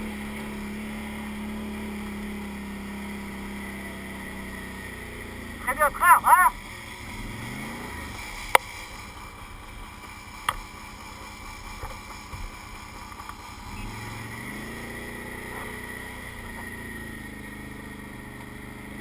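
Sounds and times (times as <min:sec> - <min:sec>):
atv engine revving: 0:00.0 - 0:19.0
off-road engines idling: 0:00.0 - 0:19.0.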